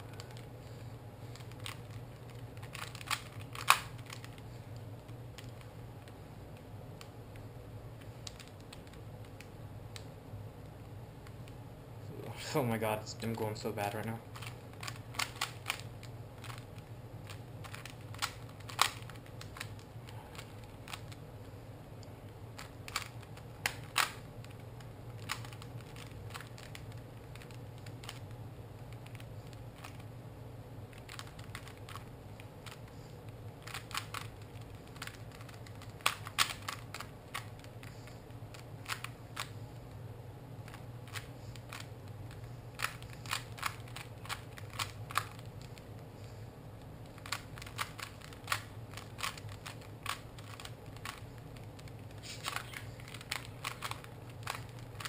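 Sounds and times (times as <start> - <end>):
steady low hum: 0.0 - 55.0
puzzle cube plastic clicks: 1.3 - 7.1, 8.1 - 10.1, 14.3 - 21.2, 22.6 - 30.1, 30.9 - 39.5, 40.6 - 46.0, 46.8 - 55.0.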